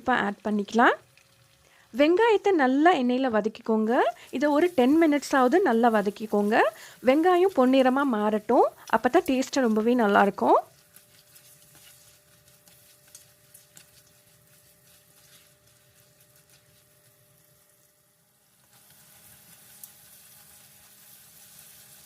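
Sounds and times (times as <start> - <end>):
onions sizzling in a pan: 0.0 - 22.0.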